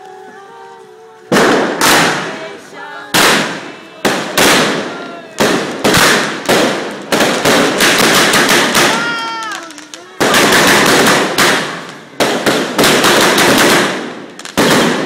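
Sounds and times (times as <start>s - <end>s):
aerial fireworks bangs: 1.2s - 15.0s.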